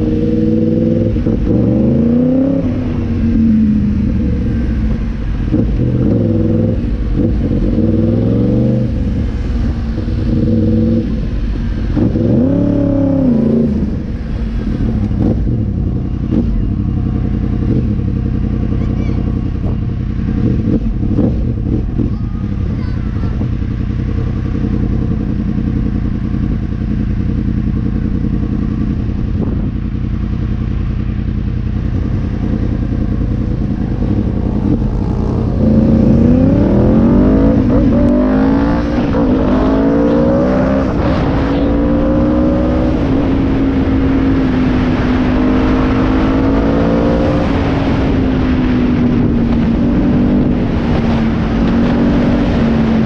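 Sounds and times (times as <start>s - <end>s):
quad bike engine revving: 0.0s - 29.8s, 31.9s - 53.0s.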